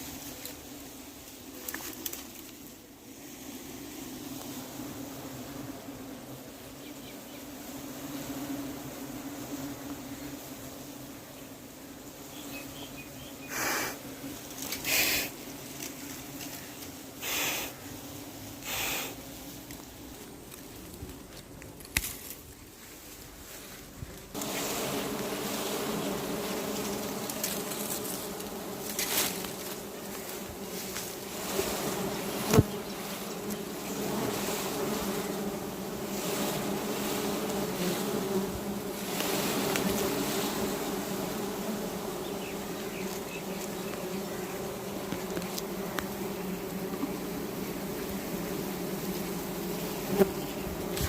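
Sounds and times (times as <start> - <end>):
bees buzzing: 0.0 - 51.0.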